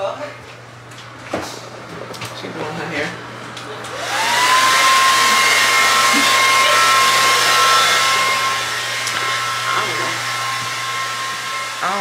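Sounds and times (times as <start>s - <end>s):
hair dryer blowing: 1.7s - 12.0s.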